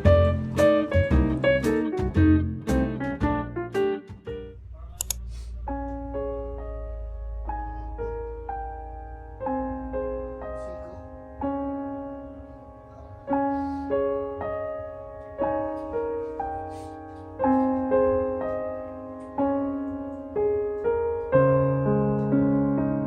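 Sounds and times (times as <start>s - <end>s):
slow solo piano music: 0.0s - 4.6s, 5.7s - 23.0s.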